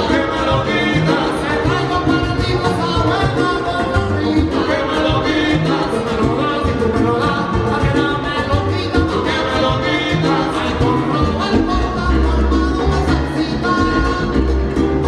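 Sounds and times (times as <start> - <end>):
men singing together: 0.0 - 15.0
salsa band playing: 0.0 - 15.0.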